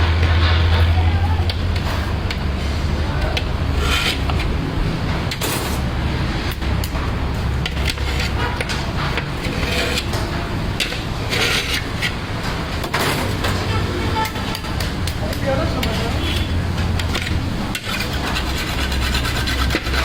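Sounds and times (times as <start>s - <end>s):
clinks knocks and scrapes: 0.0s - 20.0s
low rumble of traffic: 0.0s - 20.0s.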